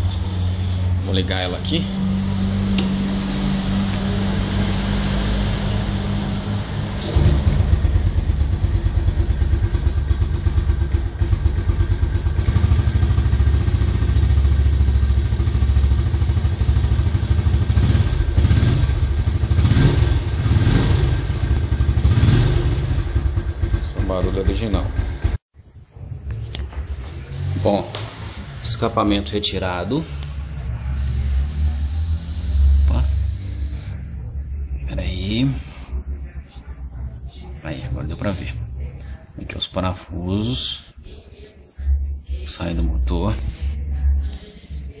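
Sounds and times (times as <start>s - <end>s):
engine throttle blips: 0.0s - 23.8s, 26.2s - 39.4s
motorcycle engine running: 0.0s - 45.0s.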